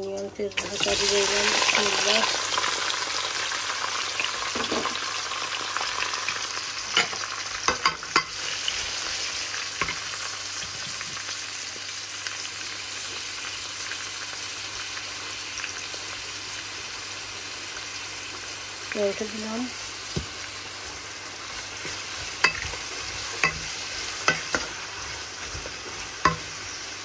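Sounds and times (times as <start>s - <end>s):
onion sizzling in oil: 0.0s - 27.0s.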